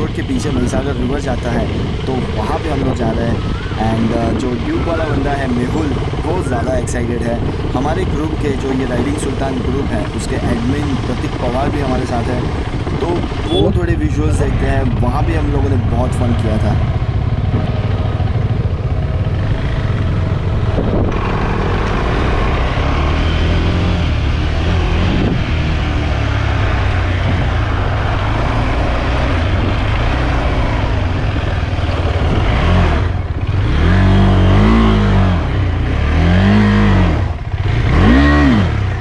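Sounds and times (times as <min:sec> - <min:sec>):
wind noise: 0:00.0 - 0:22.6, 0:23.2 - 0:35.6
motorcycle engine revving: 0:00.0 - 0:39.0.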